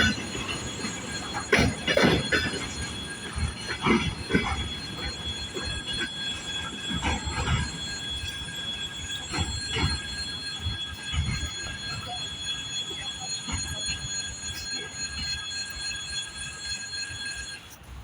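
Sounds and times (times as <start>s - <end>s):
train wheels knocking over rail joints: 0.0s - 16.2s
wheel squeal: 0.0s - 18.0s.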